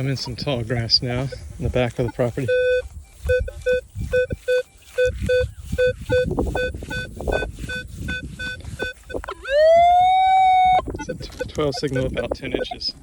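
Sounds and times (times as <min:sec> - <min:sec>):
tall grass rustling: 0:00.0 - 0:12.6
metal detector beeps: 0:00.0 - 0:13.0.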